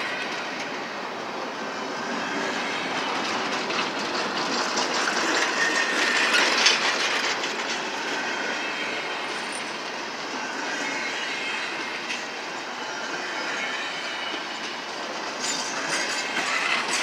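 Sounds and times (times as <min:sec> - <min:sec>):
faint high wheel squeal: 0:00.0 - 0:17.0
train wheels rumbling on rails: 0:00.0 - 0:17.0.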